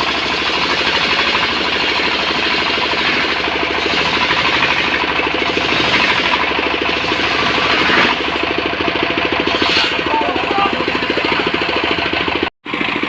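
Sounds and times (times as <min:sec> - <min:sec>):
sawmill engine beating: 0:00.0 - 0:13.0.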